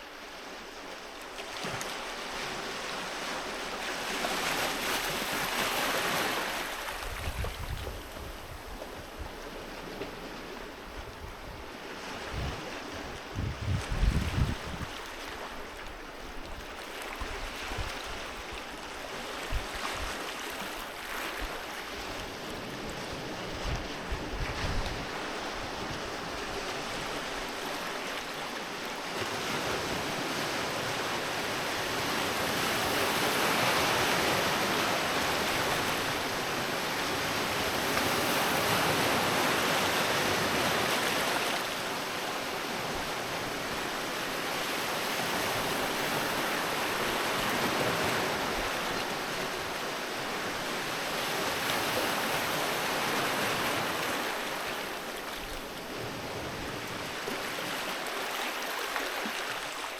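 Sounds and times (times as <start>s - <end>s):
sea waves breaking on beach: 0.0s - 59.9s.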